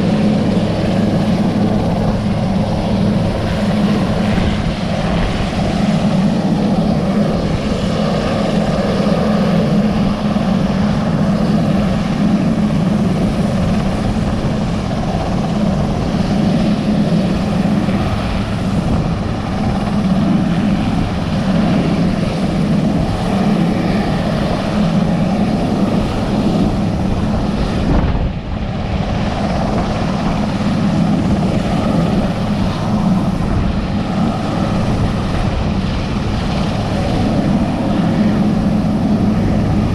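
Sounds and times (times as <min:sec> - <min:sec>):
helicopter engines and rotor drone: 0:00.0 - 0:39.9.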